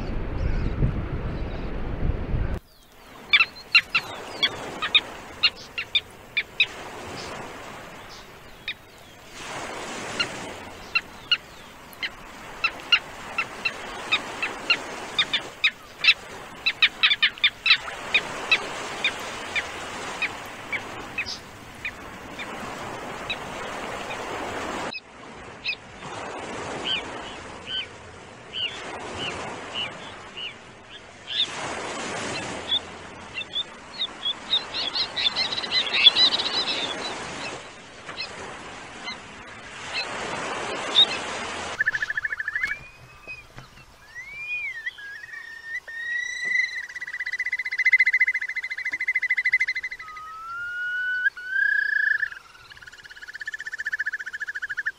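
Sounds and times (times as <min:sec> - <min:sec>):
surf washing: 0:00.0 - 0:54.9
terns calling: 0:02.6 - 0:25.0, 0:28.5 - 0:54.9.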